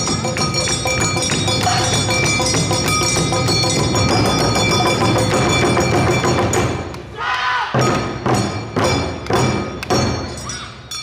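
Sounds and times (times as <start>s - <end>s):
drums in dense rhythm: 0.0s - 6.9s, 7.7s - 10.4s.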